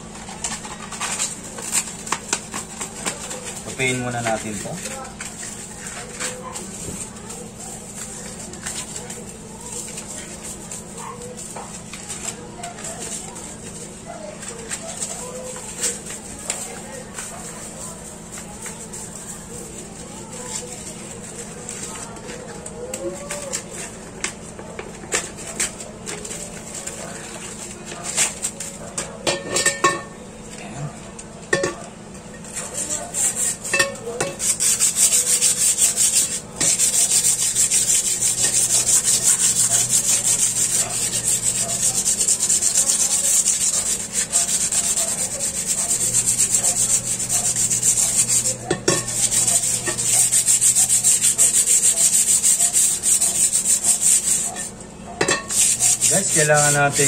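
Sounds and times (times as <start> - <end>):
sandpaper scratching metal: 0.1 - 24.4, 25.0 - 28.8, 32.4 - 54.7, 55.3 - 57.0.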